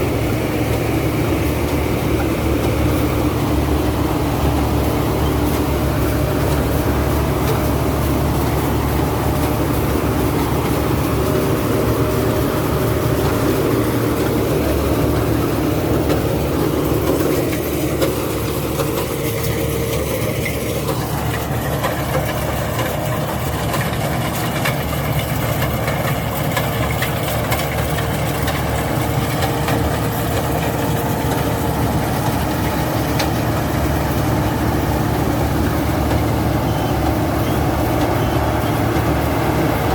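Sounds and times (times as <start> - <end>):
harvester engine running: 0.0 - 39.9
machinery noise: 0.0 - 39.9.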